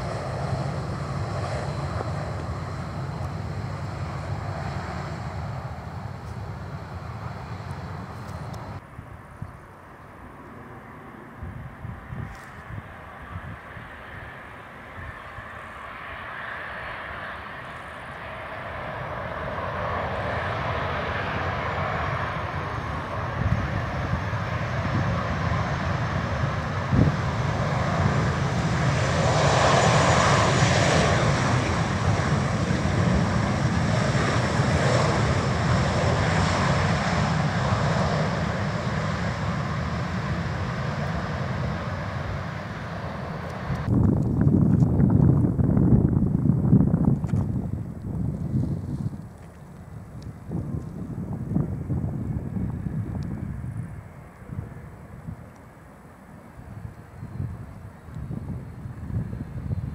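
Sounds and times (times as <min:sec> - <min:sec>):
jet engine rumble and hiss: 0:00.0 - 0:59.9.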